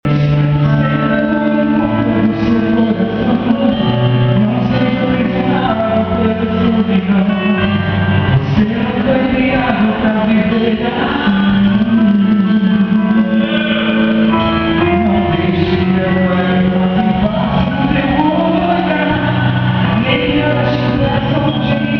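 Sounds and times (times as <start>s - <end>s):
band playing worship music: 0.0s - 21.9s.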